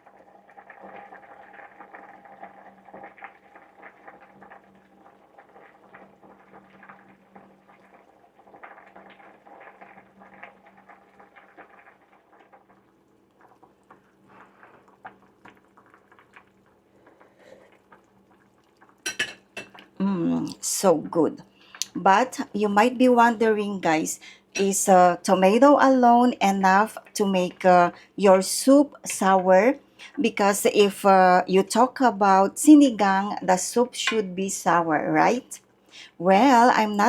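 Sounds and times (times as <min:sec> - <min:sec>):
soup bubbling and popping: 0:00.0 - 0:30.6
faint steady hum: 0:00.0 - 0:37.0.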